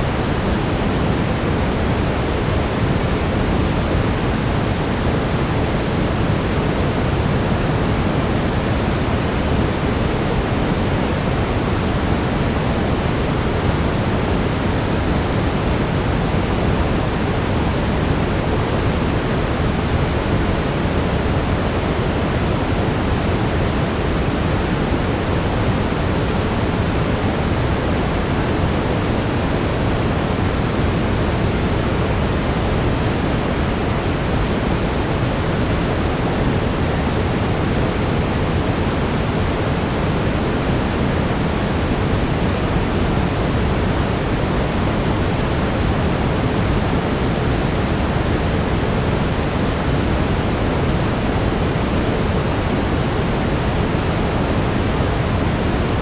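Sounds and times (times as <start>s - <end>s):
brown noise: 0.0s - 56.0s.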